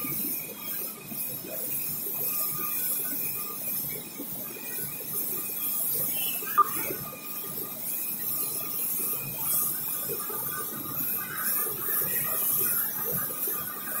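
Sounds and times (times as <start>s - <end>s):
faint machine whine: 0.0s - 14.0s
machine rumble and hiss: 0.0s - 14.0s.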